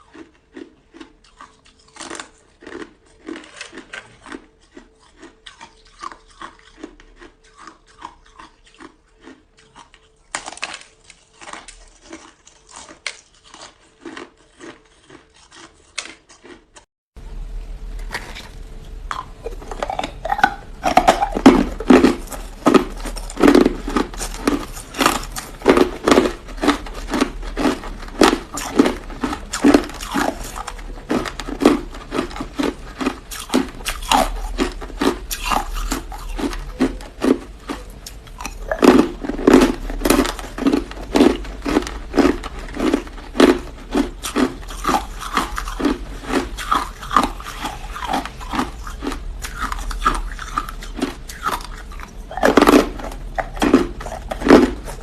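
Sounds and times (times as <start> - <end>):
frozen ice crunching being chewed: 0.0 - 16.9, 18.1 - 55.0.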